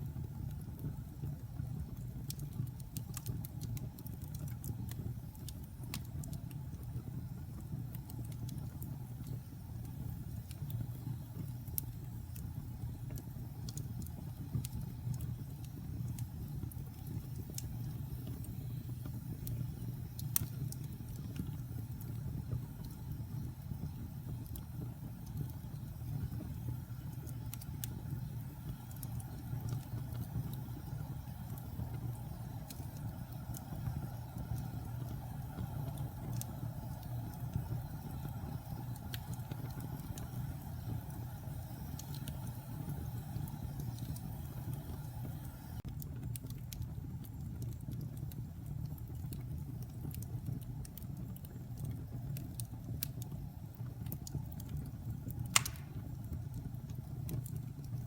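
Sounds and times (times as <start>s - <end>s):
fire crackles and pops: 0.0s - 58.0s
wood fire rumbling: 0.0s - 58.0s.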